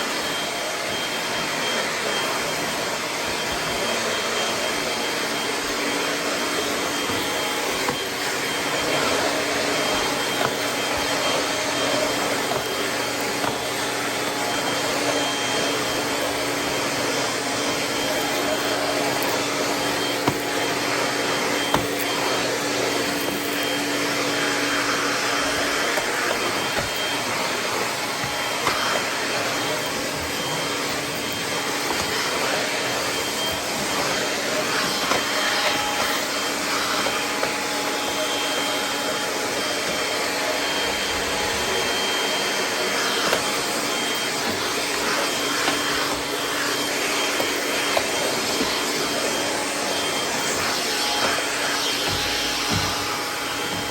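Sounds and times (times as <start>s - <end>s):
upright vacuum running: 0.0s - 53.9s.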